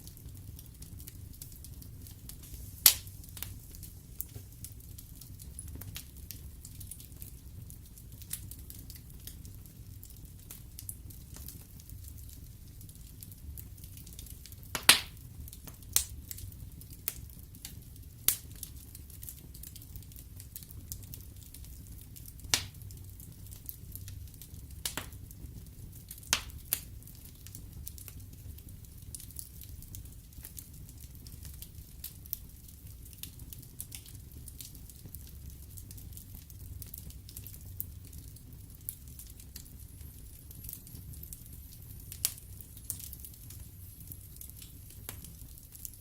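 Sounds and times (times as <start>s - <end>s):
burning logs popping: 0.0s - 46.0s
low rumble of fire: 0.0s - 46.0s
wood fire crackling: 0.0s - 46.0s.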